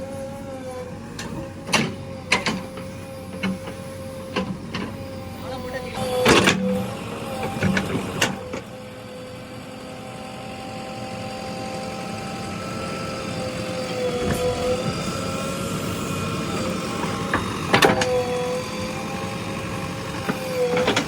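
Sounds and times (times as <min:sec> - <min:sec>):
diesel engine running under load: 0:00.0 - 0:21.0.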